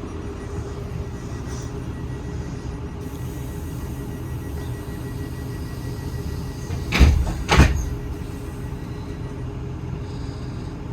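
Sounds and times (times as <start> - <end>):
train rumbling: 0.0 - 9.8.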